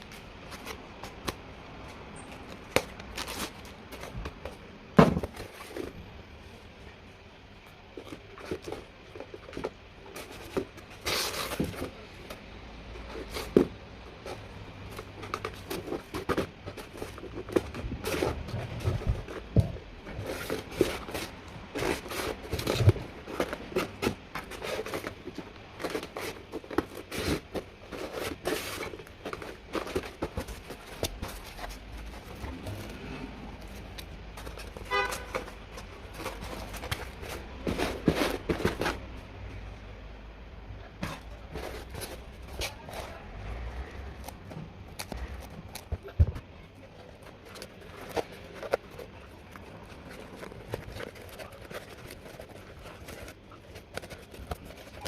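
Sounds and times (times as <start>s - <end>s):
parts and tools being handled: 0.0s - 55.0s.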